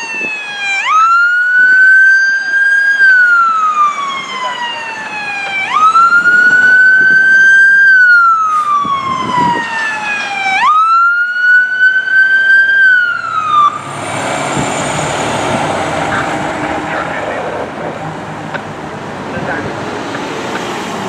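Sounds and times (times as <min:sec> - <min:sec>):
fire truck siren wailing: 0:00.0 - 0:20.3
road noise: 0:00.0 - 0:21.0
truck engine passing: 0:02.4 - 0:21.0.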